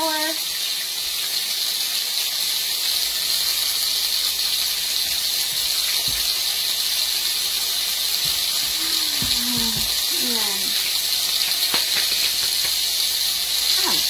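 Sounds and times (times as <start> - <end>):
steak sizzling in oil: 0.0 - 14.0.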